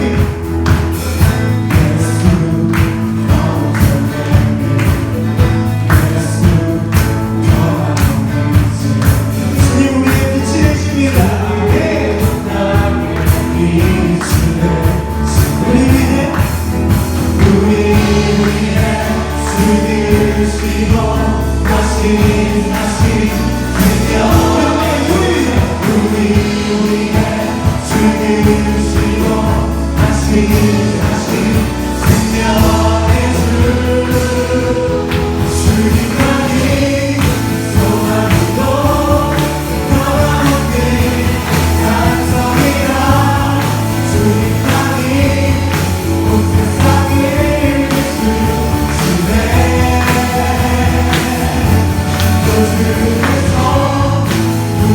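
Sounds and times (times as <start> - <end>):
band with bass and drums: 0.0 - 54.9
congregation singing worship song: 0.0 - 54.9.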